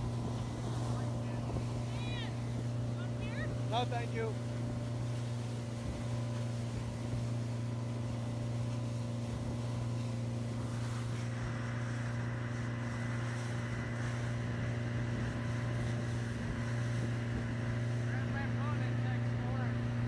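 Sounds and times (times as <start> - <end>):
motorboat engine humming: 0.0 - 20.0
wind and water rushing: 0.0 - 20.0.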